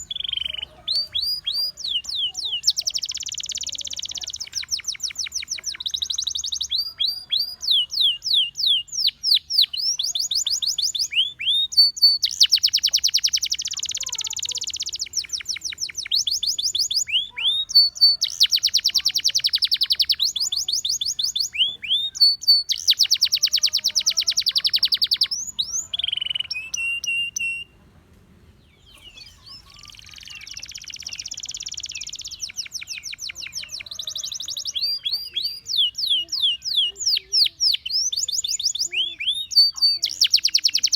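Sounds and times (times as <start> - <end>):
canary singing: 0.0 - 27.8, 28.6 - 40.9.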